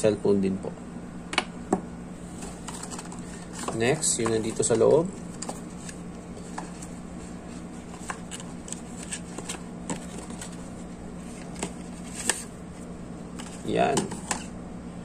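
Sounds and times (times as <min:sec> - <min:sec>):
paperboard packaging rustling: 0:02.2 - 0:14.5.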